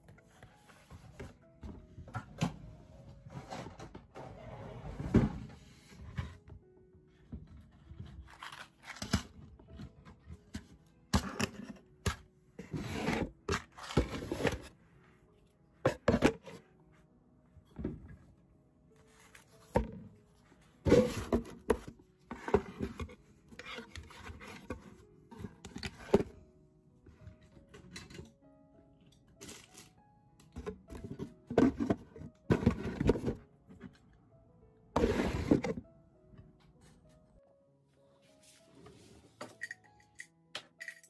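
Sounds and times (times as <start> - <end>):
faint background music: 0.0 - 41.0.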